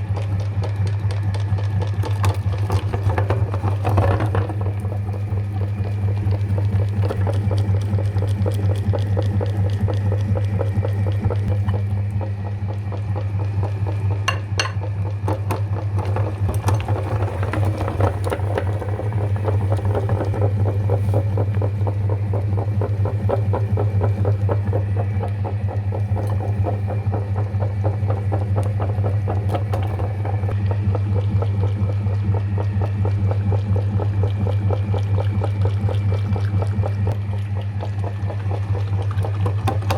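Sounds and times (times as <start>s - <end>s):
meat grinder motor hum: 0.0s - 39.9s.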